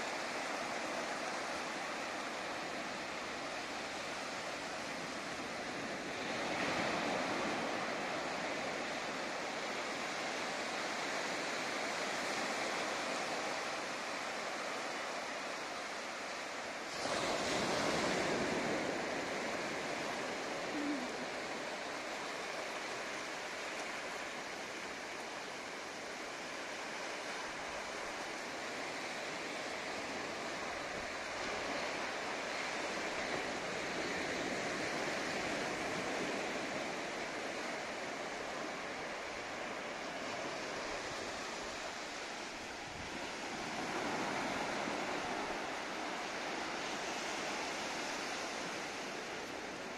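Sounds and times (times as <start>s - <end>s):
small waves breaking on sandy beach: 0.0s - 49.9s.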